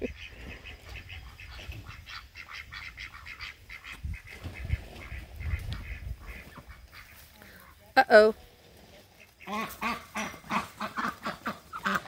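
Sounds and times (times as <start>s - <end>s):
poultry calling: 0.0s - 7.8s, 8.9s - 12.0s.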